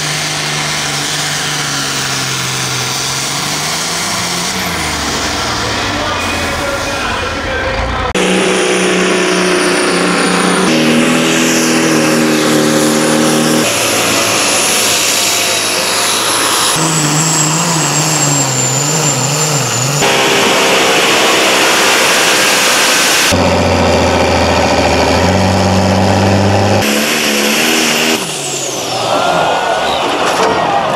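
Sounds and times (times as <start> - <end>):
engines running hard under load: 0.0 - 30.9.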